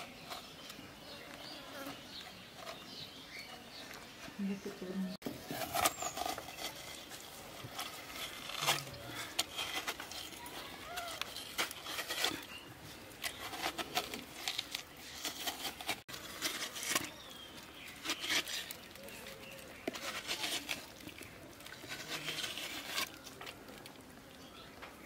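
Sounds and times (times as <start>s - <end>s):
spoon scraping watermelon flesh: 0.0s - 4.2s, 5.4s - 24.7s.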